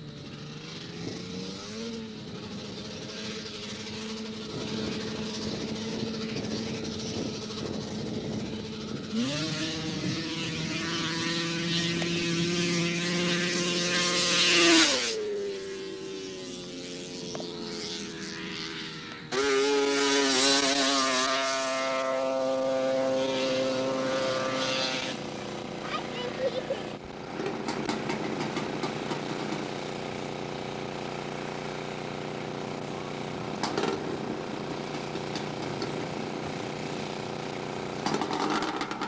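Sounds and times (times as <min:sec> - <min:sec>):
close engine running high-pitched: 0:00.0 - 0:39.0
snowmobile launching and passing: 0:00.0 - 0:39.0.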